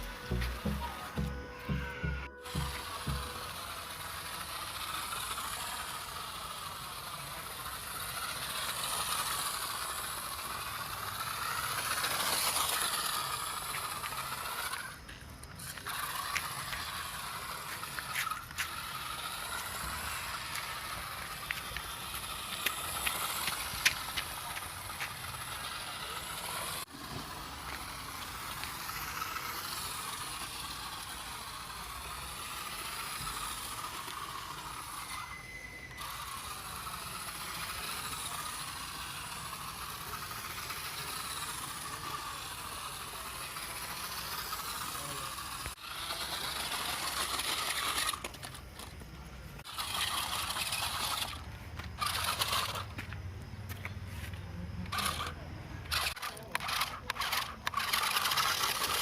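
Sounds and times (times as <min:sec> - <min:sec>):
toy car motor whirring: 0:00.0 - 0:59.0.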